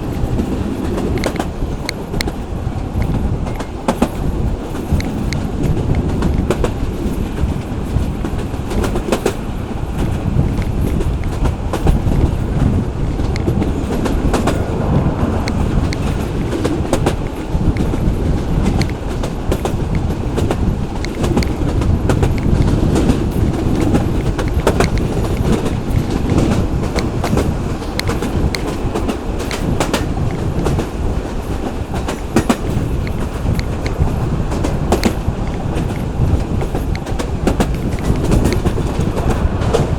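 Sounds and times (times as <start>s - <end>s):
train wheels rumbling: 0.0s - 39.9s
wheels clacking over rail joints: 0.0s - 39.9s.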